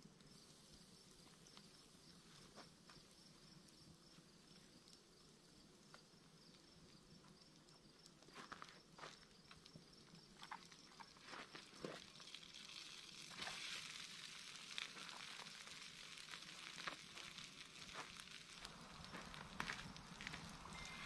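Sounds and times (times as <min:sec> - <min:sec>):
insects chirping: 0:00.1 - 0:21.0.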